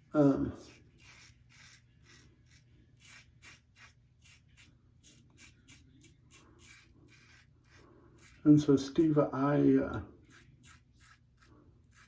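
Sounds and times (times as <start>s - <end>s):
razor scraping stubble: 0.0s - 9.2s, 10.1s - 12.0s.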